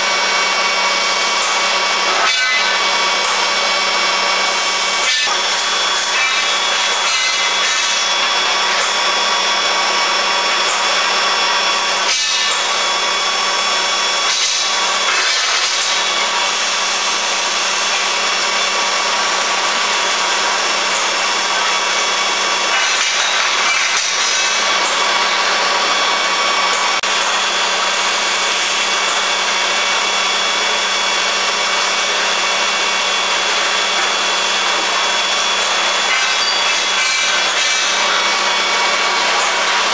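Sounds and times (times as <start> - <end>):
loud machinery hiss: 0.0 - 39.9
machinery hum: 0.0 - 39.9.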